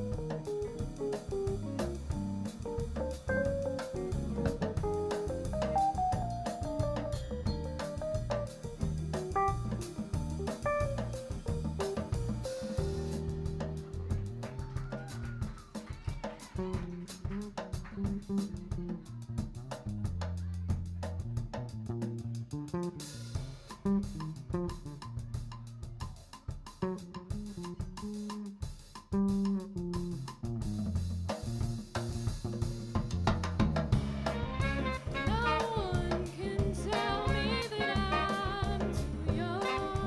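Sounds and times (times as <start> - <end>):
jazz band playing: 0.0 - 15.8, 16.5 - 26.0, 26.6 - 40.0.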